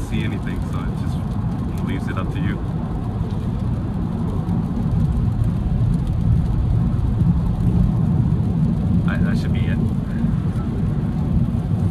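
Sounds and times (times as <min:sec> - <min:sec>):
rain on car: 0:00.0 - 0:11.9
tyres on wet road: 0:00.0 - 0:11.9.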